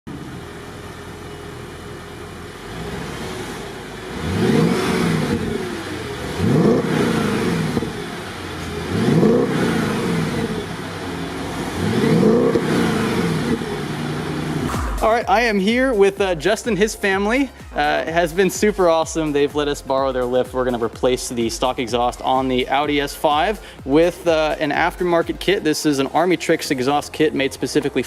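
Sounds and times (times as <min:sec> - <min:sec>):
car engine revving: 0:00.1 - 0:26.4.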